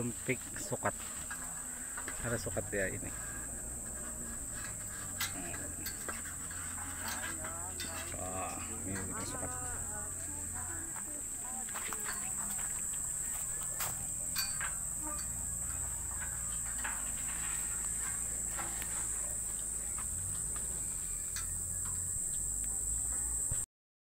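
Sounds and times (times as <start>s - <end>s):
insects droning: 0.0s - 23.7s.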